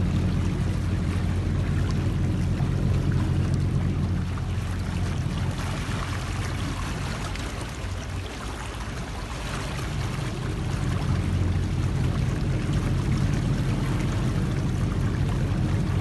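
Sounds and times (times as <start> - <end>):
boat engine humming: 0.0 - 16.0
water rushing and splashing: 0.0 - 16.0.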